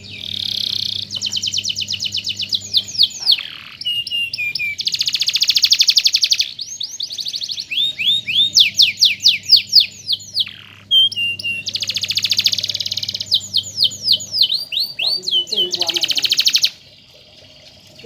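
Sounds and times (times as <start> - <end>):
canary singing trills: 0.0 - 18.0.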